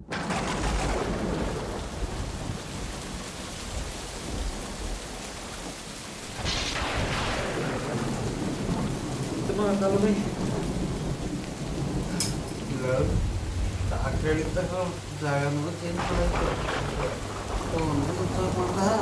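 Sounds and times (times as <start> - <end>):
heavy rain falling: 0.0 - 19.0
thunder crack rumbling: 0.0 - 19.0.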